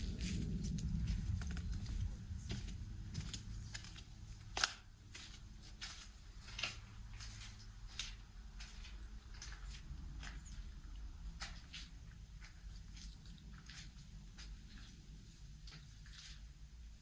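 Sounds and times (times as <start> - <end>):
footsteps clicking: 0.0 - 15.0
low steady rumble: 0.0 - 17.0.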